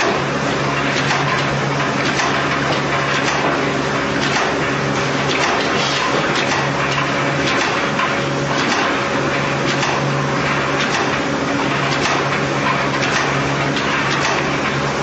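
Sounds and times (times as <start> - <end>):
machine clicks: 0.0 - 14.9.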